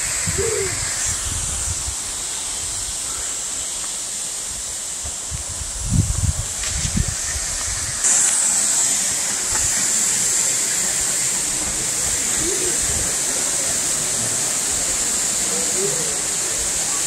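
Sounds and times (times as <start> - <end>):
waterfall hissing: 0.0 - 17.0.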